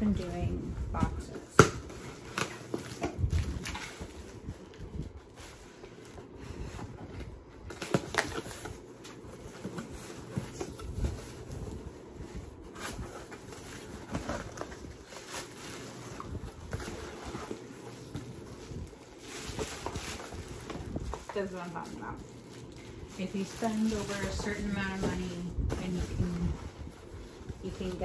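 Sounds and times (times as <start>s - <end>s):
packaging rustling and crinkling: 0.0s - 28.0s.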